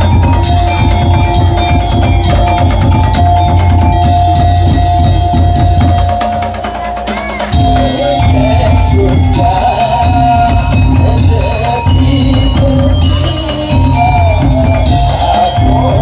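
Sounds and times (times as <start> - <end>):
fast drumming: 0.0 - 16.0
heavy bass drum: 0.0 - 16.0
long held high melodic note: 0.0 - 16.0.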